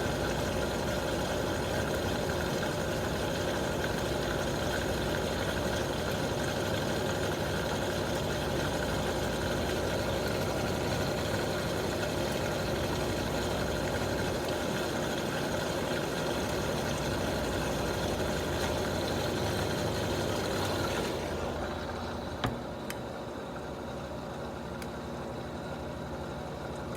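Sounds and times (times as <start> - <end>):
washing machine spinning: 0.0 - 26.9.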